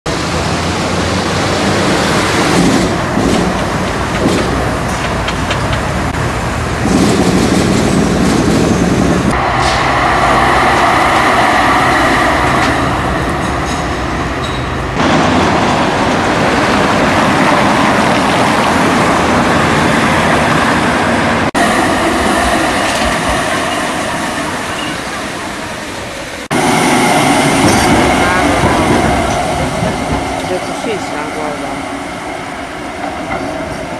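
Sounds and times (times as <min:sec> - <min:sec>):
tram wheels rumbling on rails: 0:00.1 - 0:33.9
tram whine: 0:00.1 - 0:33.9.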